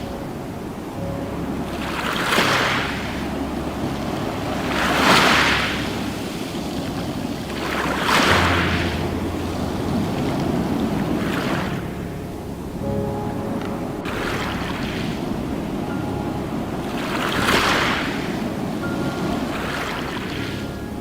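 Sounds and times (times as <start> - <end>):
ocean waves breaking on shore: 0.0 - 21.0.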